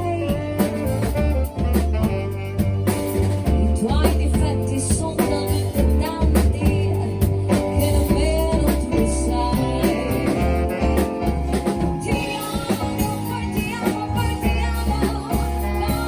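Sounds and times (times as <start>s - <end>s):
drum kit beat: 0.0s - 16.0s
heavy bass line: 0.0s - 16.0s
live band playing: 0.0s - 16.0s.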